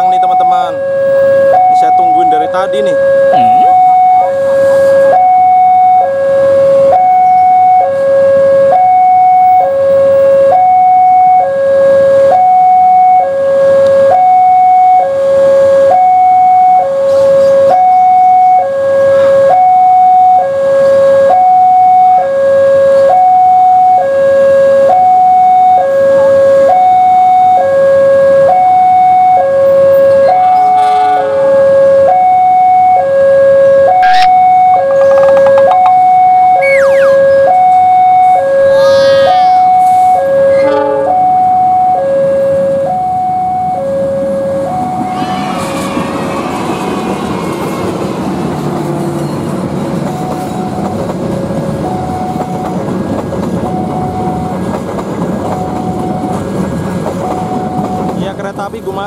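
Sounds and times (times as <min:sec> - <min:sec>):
two-tone level-crossing alarm: 0:00.0 - 0:47.3.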